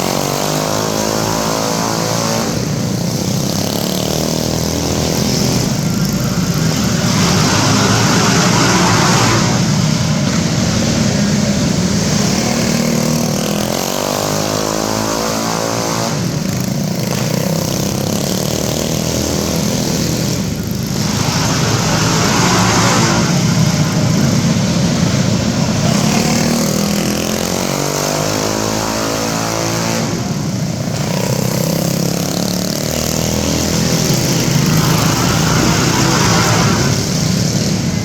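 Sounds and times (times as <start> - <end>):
minibike engines revving: 0.0 - 38.0.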